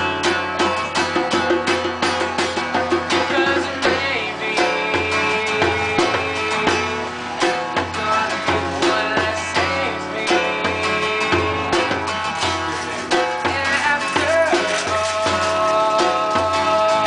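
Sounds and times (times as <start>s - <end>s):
djembe drumming: 0.0s - 17.0s
strummed acoustic guitar: 0.0s - 17.0s
young man singing: 2.9s - 17.0s.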